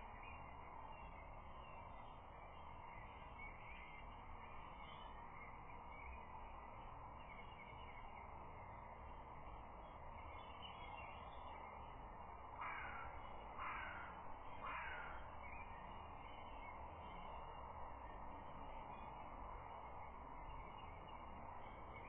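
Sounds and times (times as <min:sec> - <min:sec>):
faint small birds chirping: 0:00.0 - 0:22.0
steady outdoor hiss: 0:00.0 - 0:22.0.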